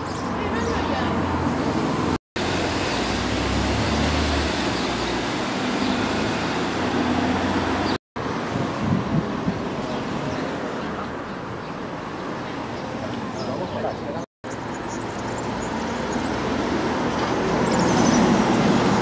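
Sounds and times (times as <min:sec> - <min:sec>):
road rumble: 0:00.0 - 0:19.0.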